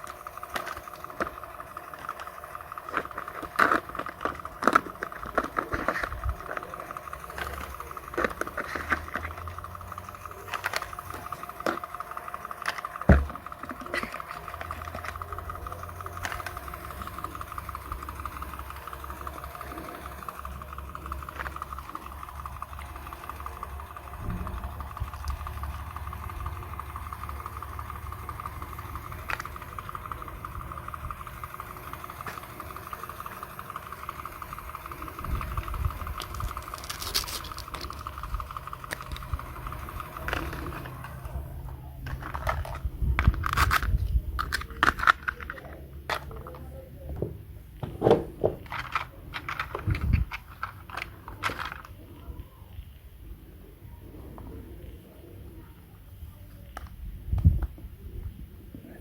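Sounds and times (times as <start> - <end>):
small electric motor humming: 0.0 - 59.0.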